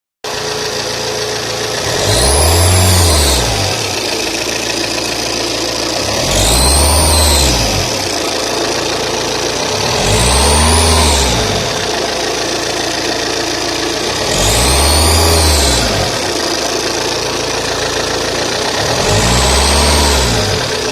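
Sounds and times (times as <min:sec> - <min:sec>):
diesel engine idling and revving: 0:00.2 - 0:20.9.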